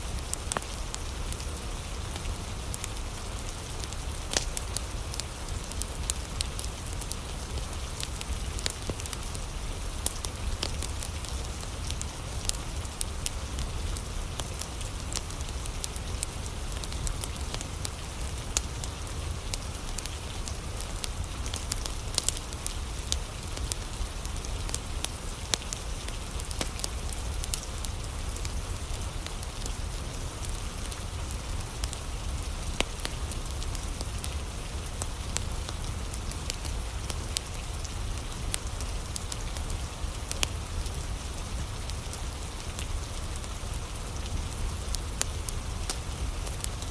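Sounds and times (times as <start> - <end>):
steady rain falling: 0.0 - 46.9
wood fire crackling and popping: 0.0 - 46.9.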